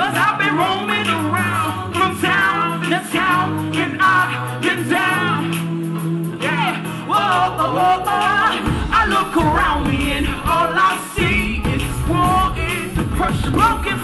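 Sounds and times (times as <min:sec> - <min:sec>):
drums: 0:00.0 - 0:14.0
man singing: 0:00.0 - 0:14.0
sustained bass notes: 0:00.0 - 0:14.0.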